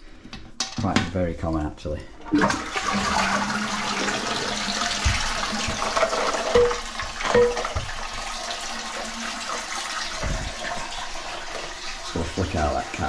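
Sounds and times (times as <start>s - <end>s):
water running in toilet cistern: 0.0s - 13.0s.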